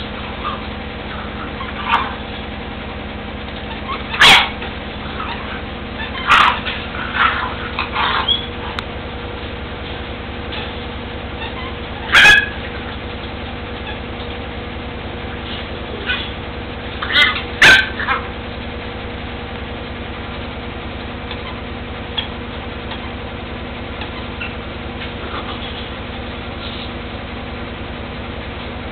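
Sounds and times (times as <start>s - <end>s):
puppies yipping and barking: 0.0s - 19.5s, 21.2s - 27.2s
steady low hum: 0.0s - 28.9s.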